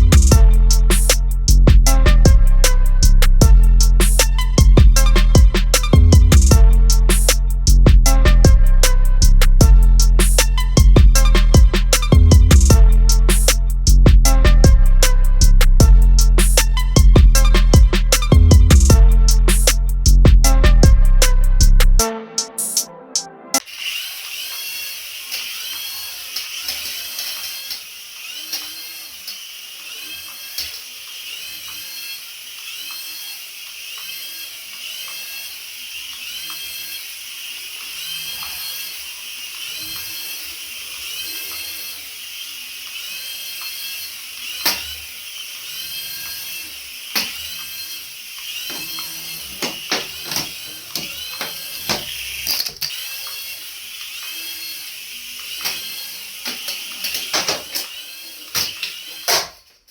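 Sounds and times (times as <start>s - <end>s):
small electric motor whining: 0.0s - 22.0s, 23.6s - 59.9s.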